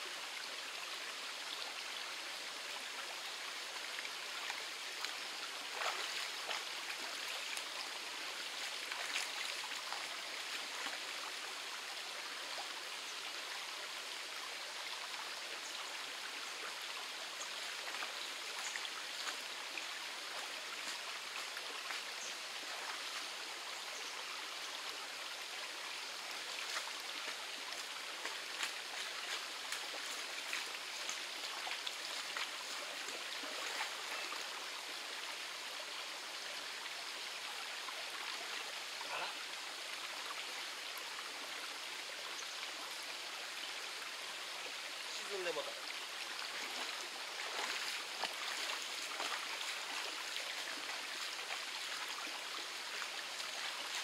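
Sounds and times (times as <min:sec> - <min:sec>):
small water splashes and trickles: 0:00.0 - 0:54.0
stream flowing over rocks: 0:00.0 - 0:54.0.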